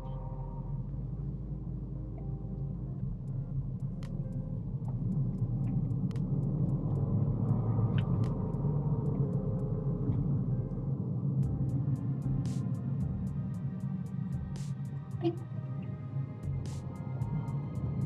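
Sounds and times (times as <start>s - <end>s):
car engine rumble accelerating: 0.0s - 18.0s.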